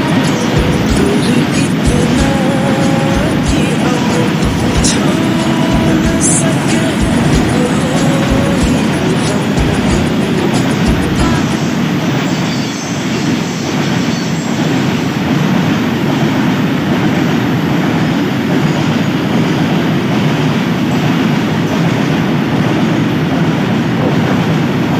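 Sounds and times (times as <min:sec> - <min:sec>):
freight train wagons rolling: 0:00.0 - 0:24.9.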